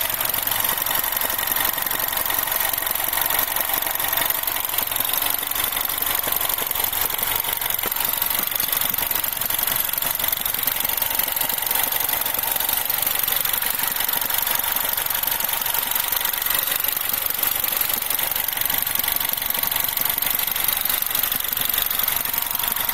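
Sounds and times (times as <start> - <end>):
car engine idling: 0.0 - 22.9
mechanical chatter: 0.0 - 22.9.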